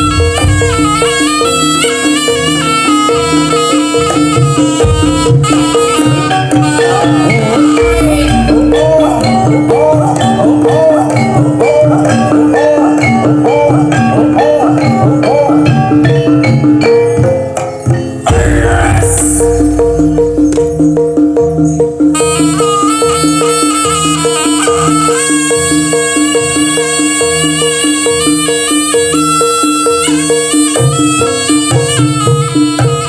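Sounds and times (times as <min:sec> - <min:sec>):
drums: 0:00.0 - 0:33.0
metallophones and gongs ringing: 0:00.0 - 0:33.0.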